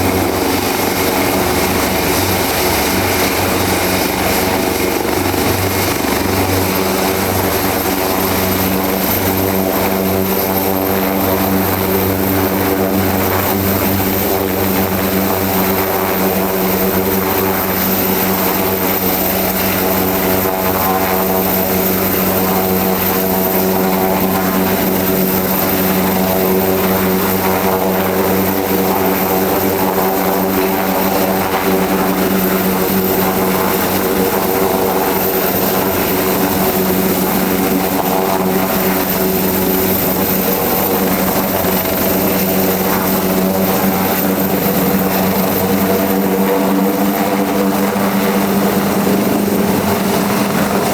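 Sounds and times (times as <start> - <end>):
helicopter rotor hum: 0.0 - 50.9
helicopter turbine whine: 0.0 - 50.9.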